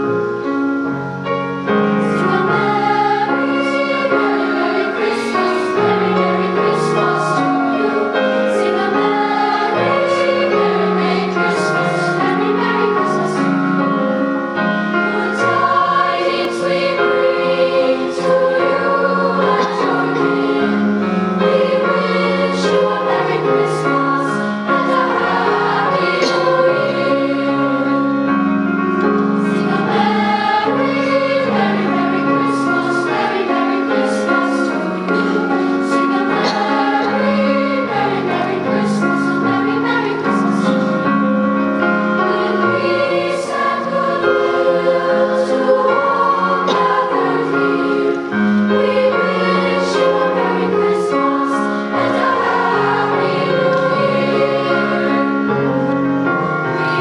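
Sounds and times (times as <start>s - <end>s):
choir singing: 1.4s - 57.0s.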